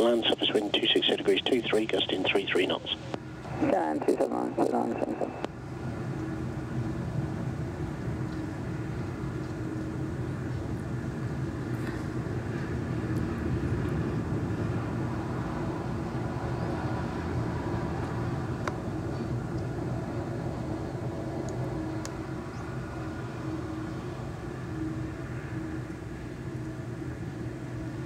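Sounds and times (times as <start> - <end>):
faint hum: 0.0 - 28.0
jet engines rumbling: 0.0 - 28.0.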